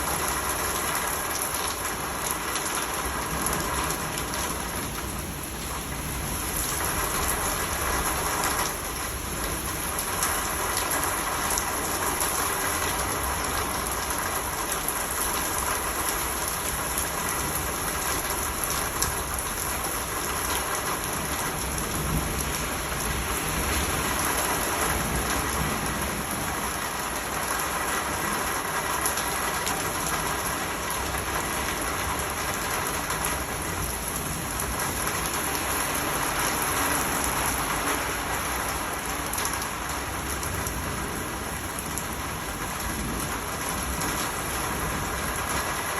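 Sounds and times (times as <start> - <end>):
rain pattering: 0.0 - 45.9.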